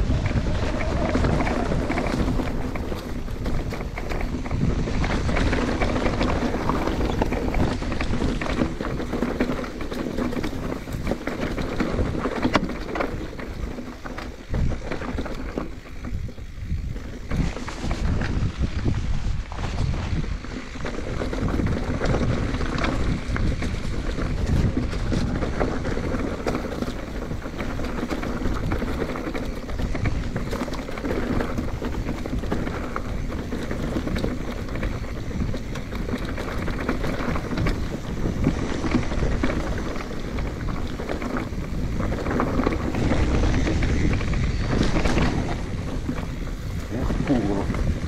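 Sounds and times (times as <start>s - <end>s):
bike knocks and rattles: 0.0s - 48.0s
bike tyre noise: 0.0s - 48.0s
wind on microphone: 0.0s - 48.0s.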